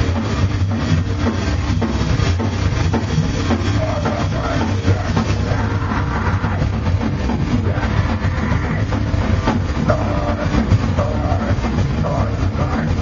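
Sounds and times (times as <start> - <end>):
bass guitar: 0.0 - 13.0
distorted electric guitars: 0.0 - 13.0
drum kit: 0.0 - 13.0.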